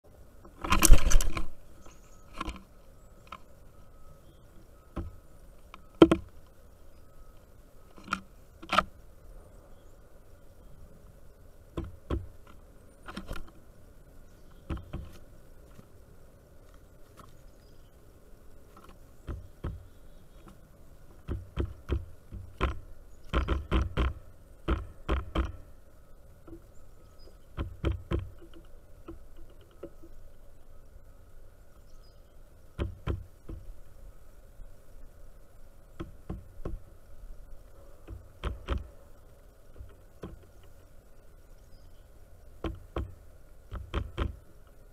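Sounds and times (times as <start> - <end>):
faint steady hum: 0.0 - 44.9
birds pecking on wooden feeder: 0.4 - 9.0, 10.7 - 13.7, 14.4 - 16.0, 18.4 - 44.9.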